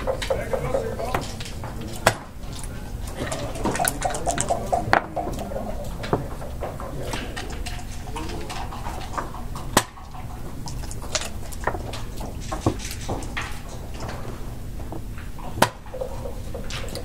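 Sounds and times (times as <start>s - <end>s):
checkers and dice clacking on board: 0.0s - 17.0s
low room hum: 0.0s - 17.0s.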